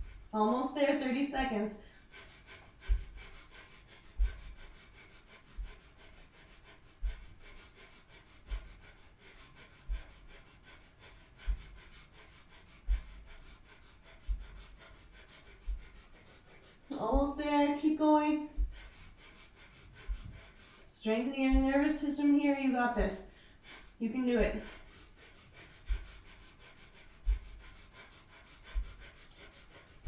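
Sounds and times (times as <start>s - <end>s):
fast forceful nasal breathing: 0.0s - 30.0s.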